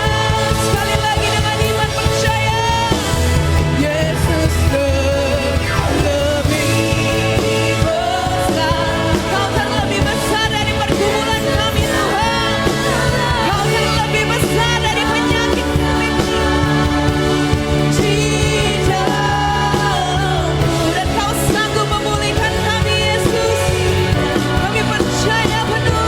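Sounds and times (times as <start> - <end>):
people singing: 0.0 - 26.0
worship band playing: 0.0 - 26.0.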